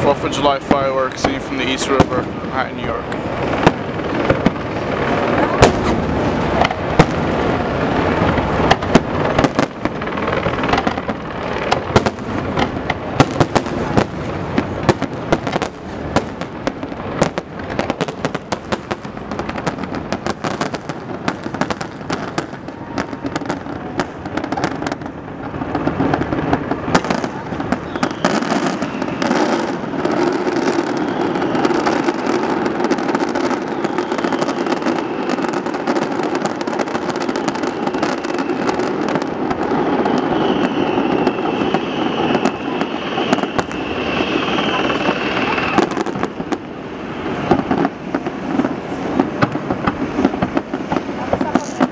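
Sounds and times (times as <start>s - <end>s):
fireworks rumble and crackle: 0.0s - 51.9s.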